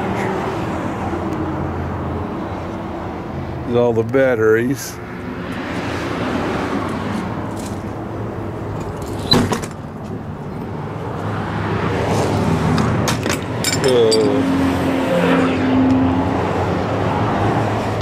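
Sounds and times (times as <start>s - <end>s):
rushing vehicle noise: 0.0s - 18.0s.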